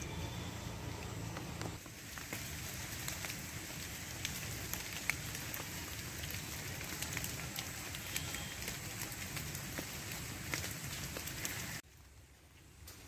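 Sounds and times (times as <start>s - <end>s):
rain falling on leaves: 0.2s - 13.0s.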